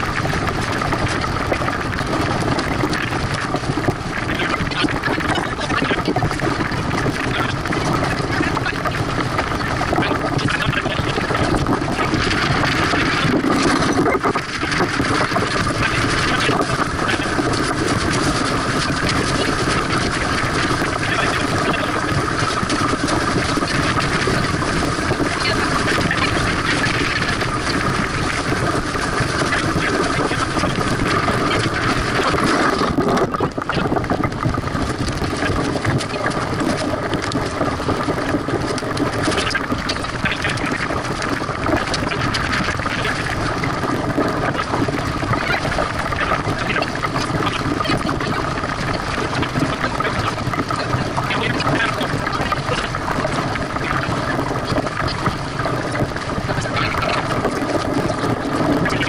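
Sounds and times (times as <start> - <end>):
wind and water rushing: 0.0 - 59.0.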